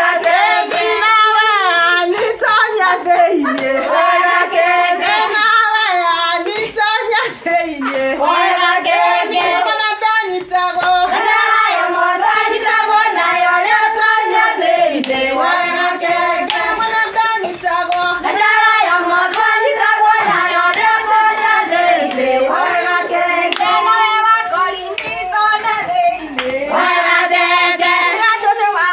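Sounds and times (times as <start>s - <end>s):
voices singing: 0.0s - 28.9s
hand claps: 0.2s - 3.9s, 8.9s - 28.5s.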